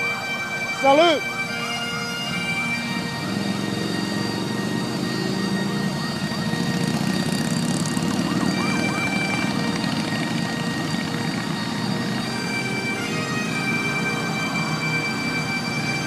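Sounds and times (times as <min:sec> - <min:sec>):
bagpipes playing slow tune: 0:00.0 - 0:16.0.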